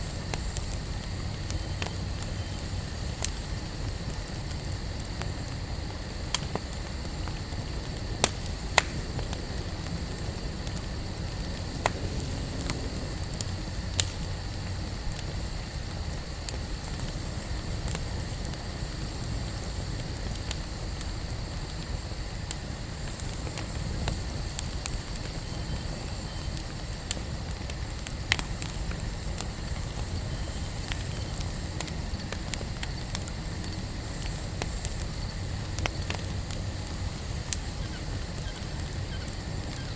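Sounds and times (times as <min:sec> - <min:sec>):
fire crackling pops: 0:00.0 - 0:39.9
low rush of flames: 0:00.0 - 0:39.9.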